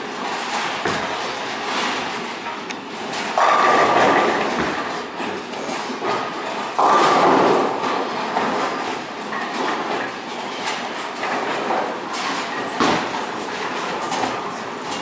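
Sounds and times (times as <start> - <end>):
bowling pins crashing: 0.2 - 2.3, 3.0 - 15.0
balls rolling: 3.0 - 15.0.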